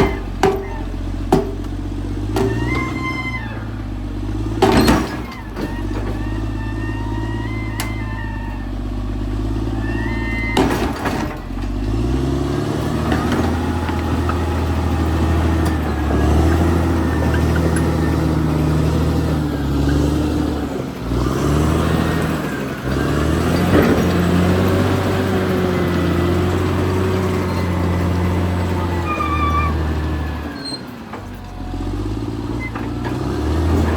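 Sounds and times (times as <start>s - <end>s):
bulldozer diesel engine: 0.0s - 33.9s.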